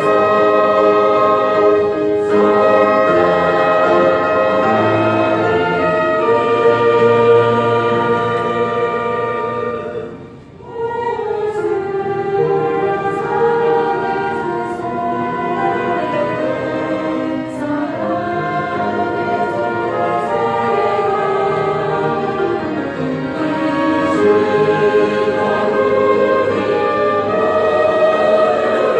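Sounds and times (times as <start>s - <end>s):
choir singing a hymn: 0.0s - 28.9s
instrumental accompaniment: 0.0s - 28.9s.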